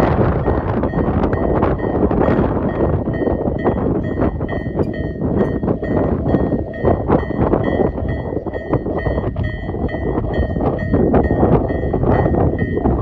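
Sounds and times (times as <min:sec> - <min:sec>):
train rumbling past: 0:00.0 - 0:13.0
electronic crossing bell dinging: 0:00.4 - 0:13.0.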